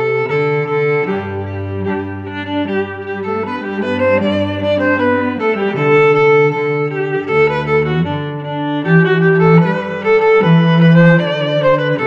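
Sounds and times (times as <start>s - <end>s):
bowed strings holding long notes: 0.0s - 12.0s.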